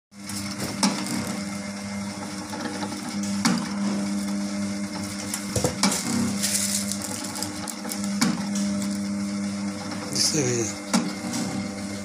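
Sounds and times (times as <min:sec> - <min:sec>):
printing machine motor hum: 0:00.2 - 0:12.0.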